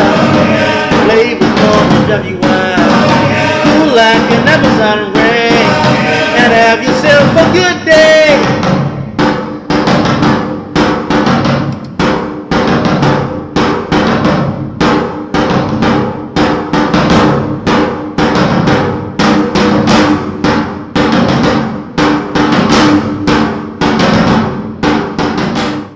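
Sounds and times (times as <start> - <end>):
bass drum and snare beat: 0.0 - 25.9.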